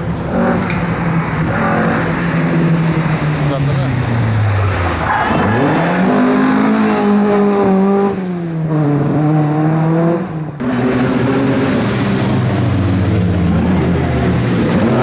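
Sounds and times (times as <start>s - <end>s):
rally car engine revving hard: 0.1s - 15.0s.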